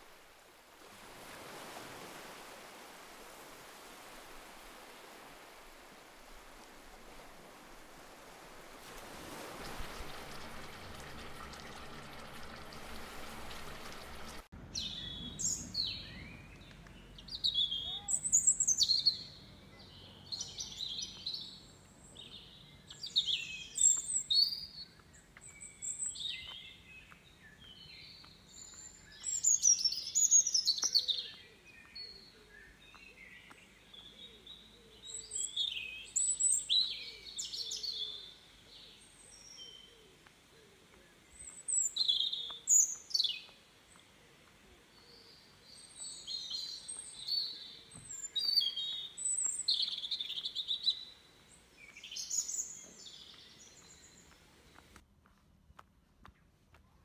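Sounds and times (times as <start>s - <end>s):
songbirds chirping: 4.4s - 57.0s.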